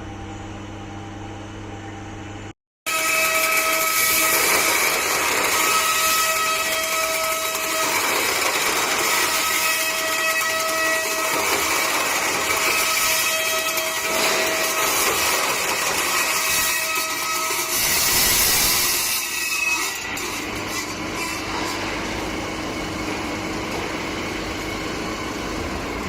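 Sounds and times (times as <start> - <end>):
cutting machine hissing: 2.9 - 26.0.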